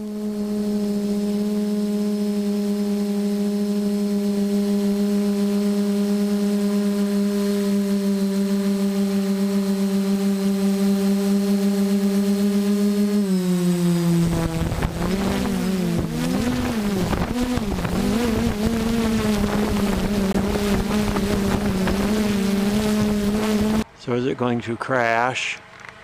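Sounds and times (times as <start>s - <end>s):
drone propellers buzzing: 0.0s - 23.9s.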